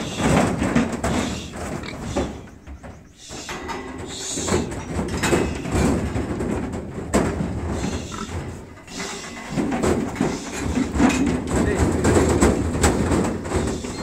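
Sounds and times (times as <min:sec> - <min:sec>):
metal gates rattling and clanking: 0:00.0 - 0:14.0.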